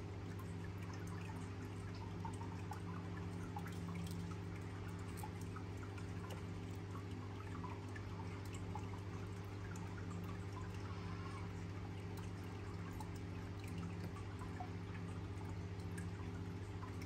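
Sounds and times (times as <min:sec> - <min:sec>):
faint ticks and drips: 0:00.0 - 0:17.0
steady low hum: 0:00.0 - 0:17.0.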